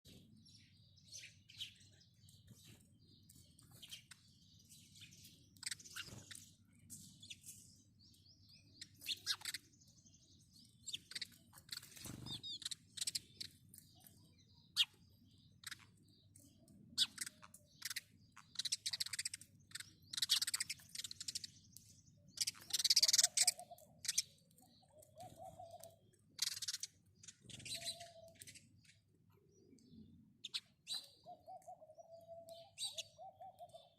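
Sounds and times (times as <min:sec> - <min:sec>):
sparrows chirping: 0:00.1 - 0:33.9.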